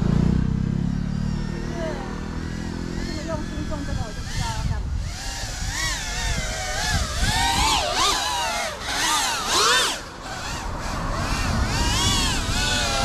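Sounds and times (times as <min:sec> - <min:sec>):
drone motors whining: 0:00.9 - 0:13.0.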